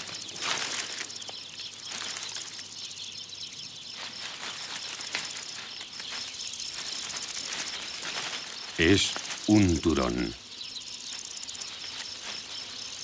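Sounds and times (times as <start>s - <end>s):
rustles in dry leaves: 0.0s - 10.4s, 11.0s - 13.0s
background hiss: 0.0s - 13.0s.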